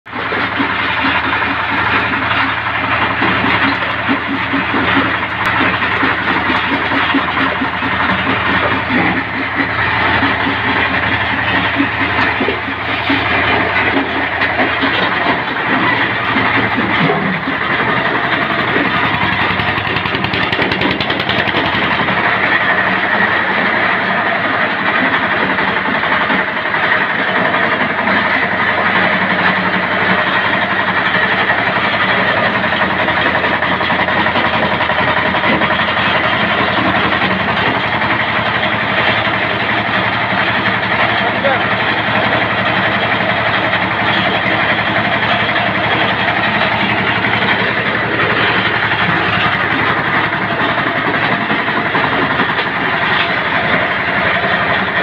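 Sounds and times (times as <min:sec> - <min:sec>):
brick crusher grinding: 0:00.1 - 0:55.0
machine drive drone: 0:00.1 - 0:55.0.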